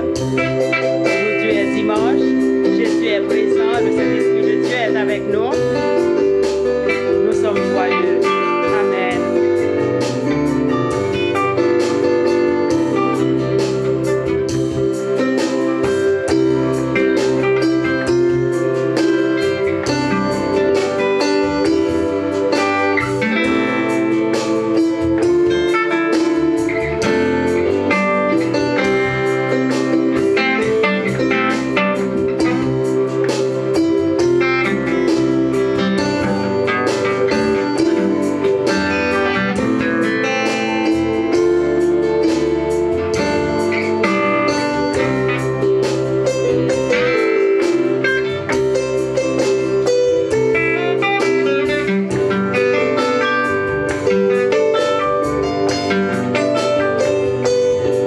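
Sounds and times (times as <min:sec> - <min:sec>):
acoustic guitar melody: 0:00.0 - 0:58.0
electronic keyboard accompaniment: 0:00.0 - 0:58.0.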